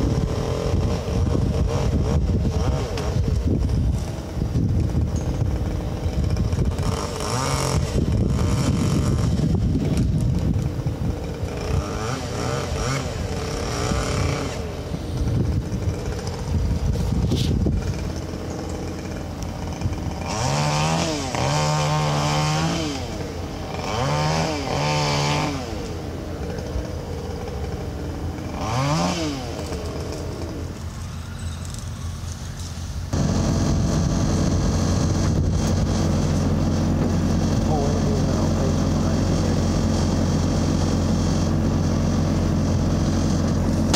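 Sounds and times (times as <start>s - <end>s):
chainsaw revving: 0.0s - 31.9s, 33.1s - 43.9s.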